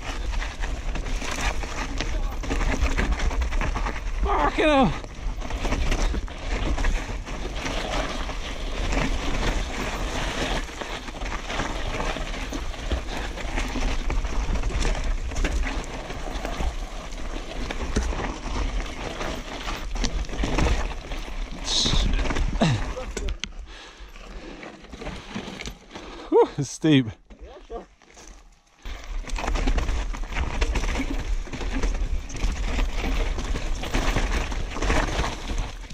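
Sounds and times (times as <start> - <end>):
bike rattling over bumps: 0.0 - 26.3, 28.0 - 35.9
bike tyres on dirt: 0.0 - 35.9.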